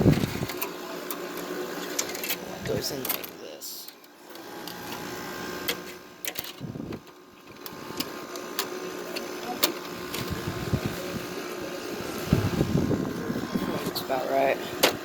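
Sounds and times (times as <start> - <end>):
window air conditioner humming: 0.0 - 15.0.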